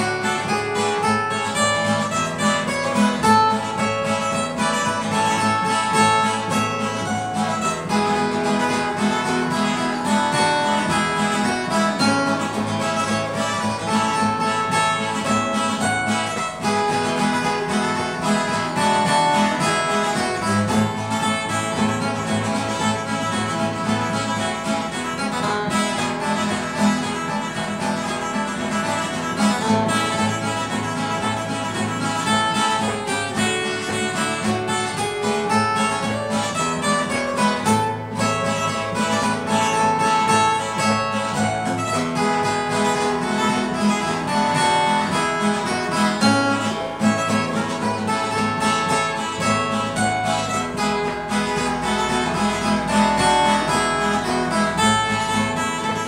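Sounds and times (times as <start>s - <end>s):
acoustic guitar strummed and plucked: 0.0s - 56.0s.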